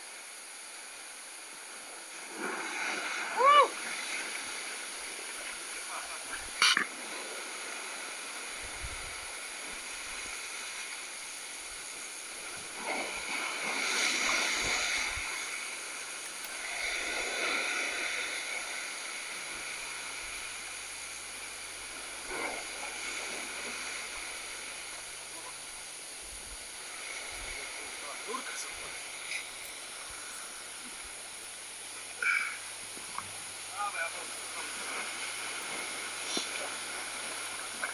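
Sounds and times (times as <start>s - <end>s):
surf washing against rocks: 0.0s - 37.9s
waves breaking: 0.0s - 37.9s.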